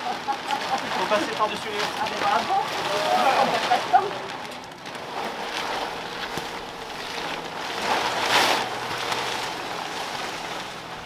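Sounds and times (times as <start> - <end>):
plastic tarpaulin rustling: 0.0 - 11.0.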